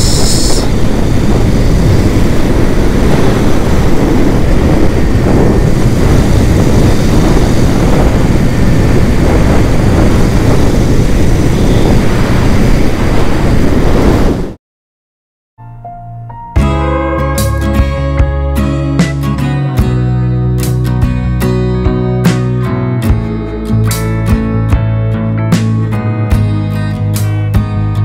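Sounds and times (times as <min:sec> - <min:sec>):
motorcycle engine and road noise: 0:00.0 - 0:14.6, 0:16.6 - 0:28.0
wind noise on microphone: 0:00.0 - 0:14.6, 0:16.6 - 0:28.0.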